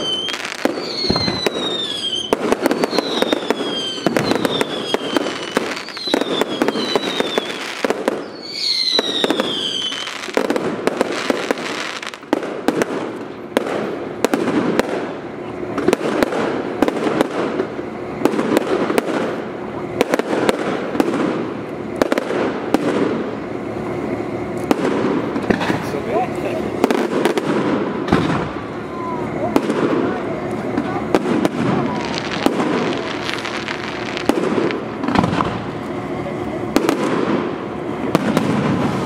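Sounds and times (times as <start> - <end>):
fireworks bangs and crackling: 0.0 - 39.0
fireworks falling whistles: 0.0 - 39.0.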